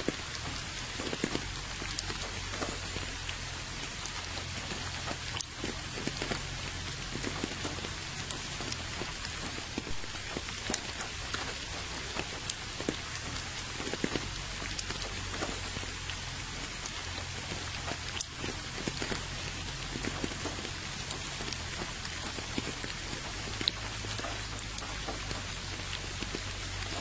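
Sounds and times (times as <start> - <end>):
rain falling into a puddle: 0.0 - 27.0.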